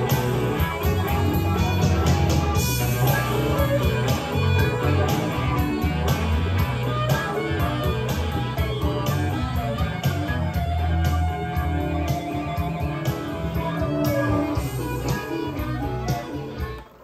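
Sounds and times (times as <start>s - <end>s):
guitar music from cassette: 0.0s - 17.0s.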